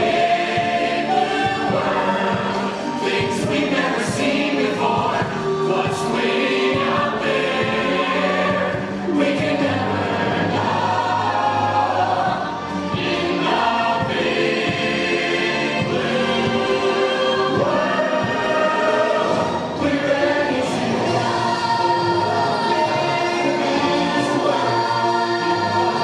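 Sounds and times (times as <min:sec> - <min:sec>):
chorus singing: 0:00.0 - 0:26.0
orchestral show music: 0:00.0 - 0:26.0.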